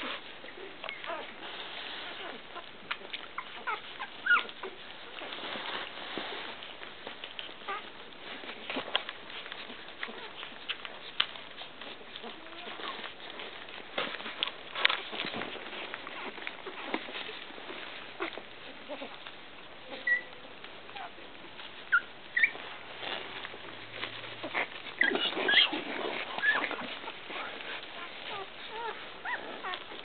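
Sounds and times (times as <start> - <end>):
puppies squeaking: 0.0 - 5.6, 6.4 - 7.9, 8.7 - 23.4, 24.0 - 30.0.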